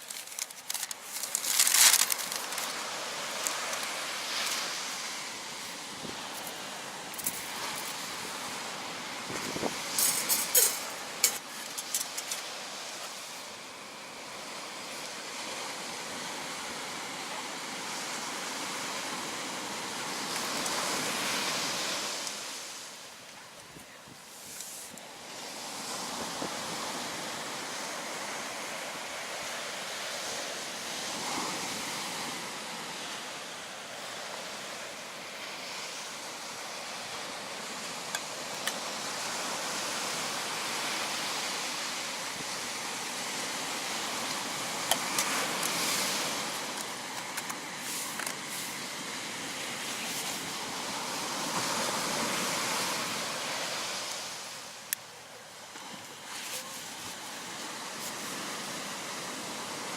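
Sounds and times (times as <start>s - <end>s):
sea waves washing ashore: 0.0s - 59.9s.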